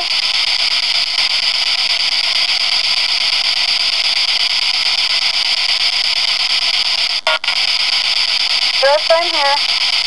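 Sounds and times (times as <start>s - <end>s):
radio static hiss: 0.0s - 10.0s
rapid faint ticks: 0.0s - 10.0s.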